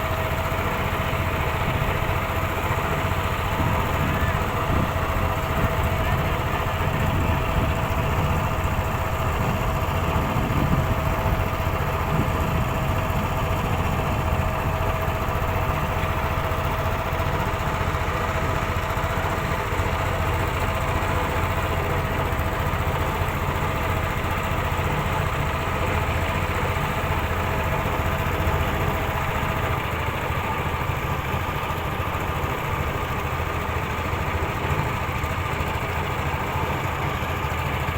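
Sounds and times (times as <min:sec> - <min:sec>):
small engine droning: 0:00.0 - 0:37.9.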